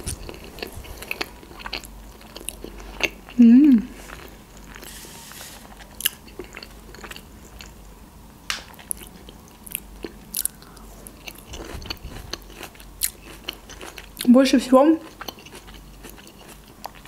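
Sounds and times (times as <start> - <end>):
person chewing: 0.0 - 7.8, 8.6 - 14.3, 15.0 - 17.0.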